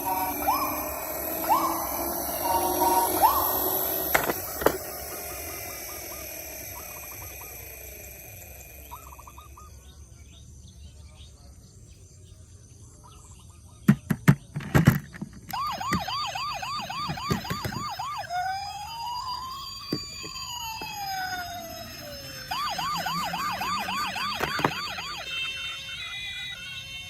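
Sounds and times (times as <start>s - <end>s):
sharp toy clicks: 0.0s - 9.6s, 14.0s - 27.0s
toy electronic siren: 0.0s - 10.0s, 14.8s - 27.0s.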